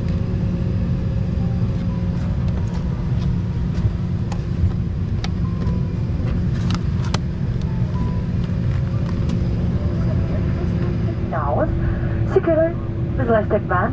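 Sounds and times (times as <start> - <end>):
airliner cabin rumble and hum: 0.0 - 13.9.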